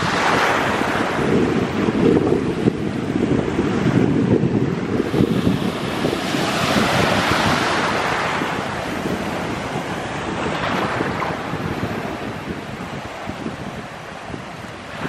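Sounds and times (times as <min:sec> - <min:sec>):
small sea waves washing in: 0:00.0 - 0:15.0
wind buffeting the microphone: 0:00.0 - 0:15.0.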